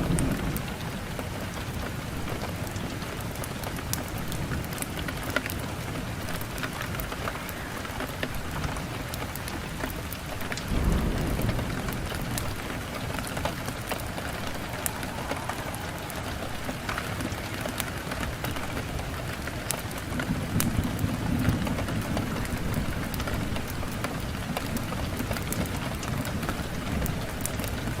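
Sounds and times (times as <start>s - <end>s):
wood fire crackling: 1.6s - 28.0s.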